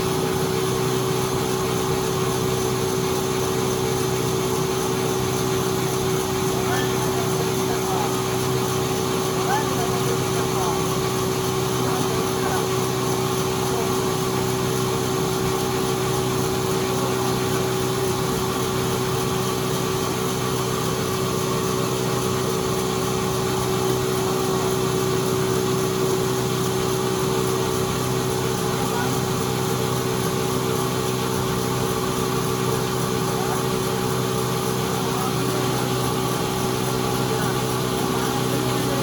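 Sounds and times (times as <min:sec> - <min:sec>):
sawmill machinery hum: 0:00.0 - 0:39.0.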